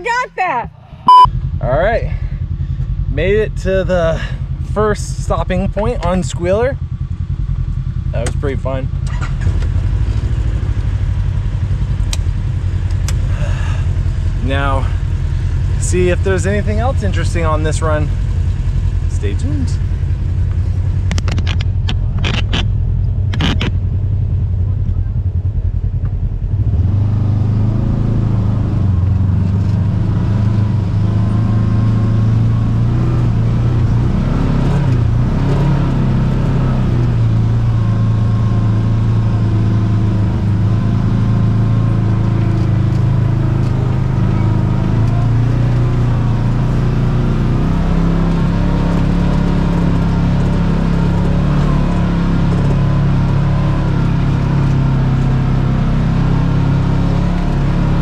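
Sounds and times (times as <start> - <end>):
side-by-side engine running: 0.0 - 58.0.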